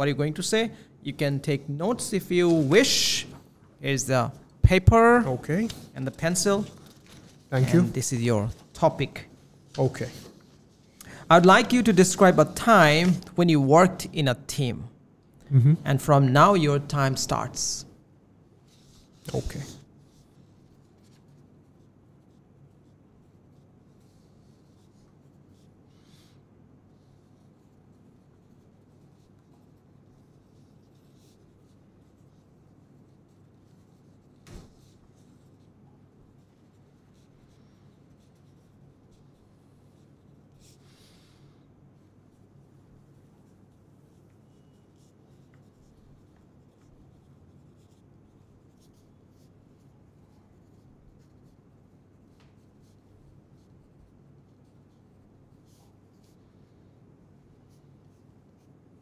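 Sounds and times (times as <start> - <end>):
low room hum: 0.0 - 59.0
pencil scratching on paper: 4.8 - 13.7, 18.7 - 59.0.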